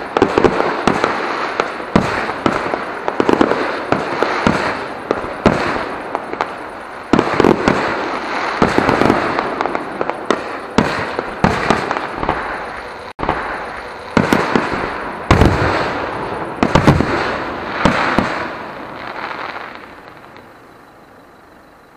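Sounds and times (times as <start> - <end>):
fireworks bangs: 0.0 - 21.7
fireworks crackle: 0.0 - 21.9.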